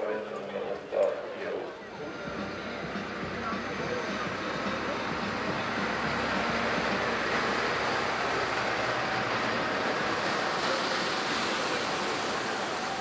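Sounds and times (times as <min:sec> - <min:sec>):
tractor engine: 0:01.5 - 0:13.0.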